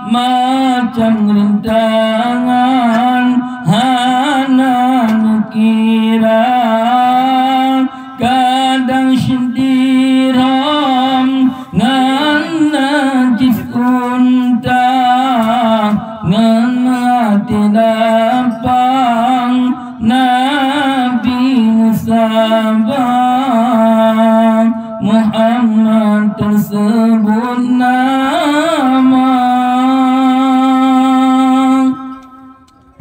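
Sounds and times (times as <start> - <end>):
man singing devotional song: 0.0 - 32.6.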